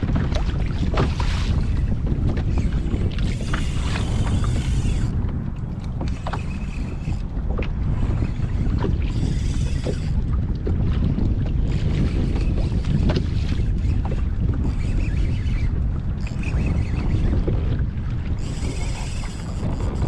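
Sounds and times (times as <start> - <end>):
water sloshing against hull: 0.0 - 20.0
wind buffeting microphone: 0.0 - 20.0.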